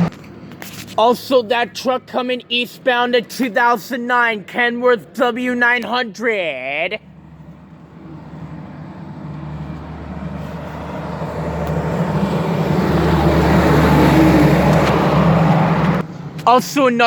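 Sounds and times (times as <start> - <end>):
diesel truck engine hum: 0.0 - 17.0.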